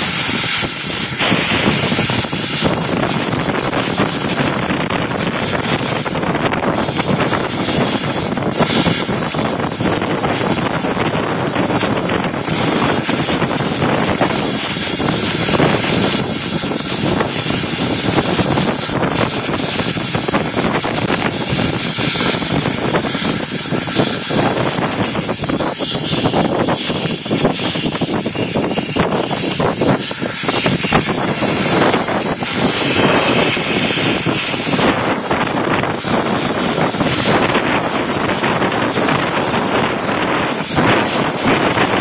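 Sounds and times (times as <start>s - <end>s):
steam locomotive roaring: 0.0s - 42.0s.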